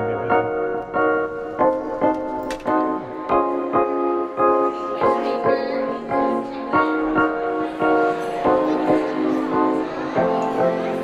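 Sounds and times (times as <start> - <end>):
piano background music: 0.0 - 11.0.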